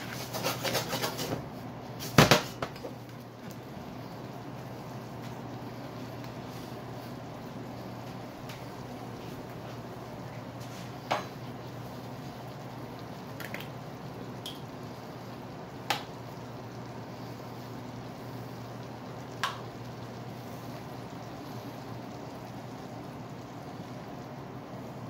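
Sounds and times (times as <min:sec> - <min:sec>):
sauce bubbling and sizzling: 0:00.0 - 0:25.0.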